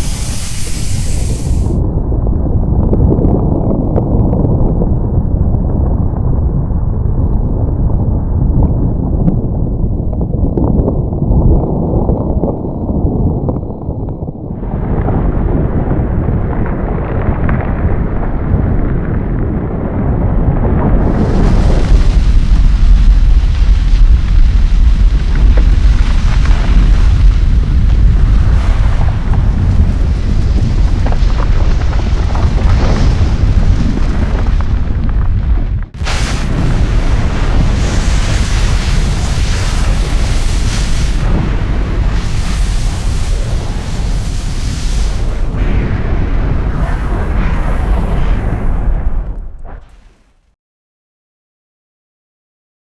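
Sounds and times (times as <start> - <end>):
volcano rumble: 0.0 - 50.2
crackles: 0.0 - 50.4.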